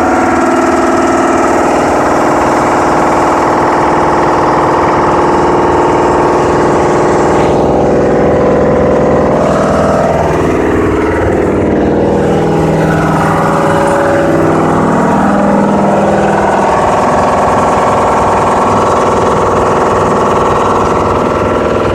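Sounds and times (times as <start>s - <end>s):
compressor engine running: 0.0s - 21.9s.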